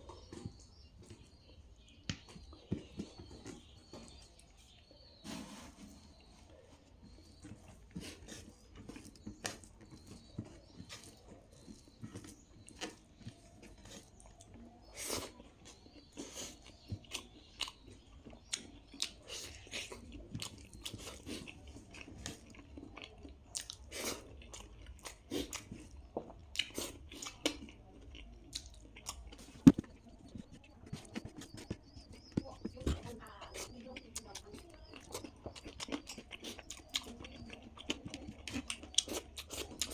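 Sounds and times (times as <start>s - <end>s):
person chewing food: 0.0s - 5.2s, 6.1s - 39.9s.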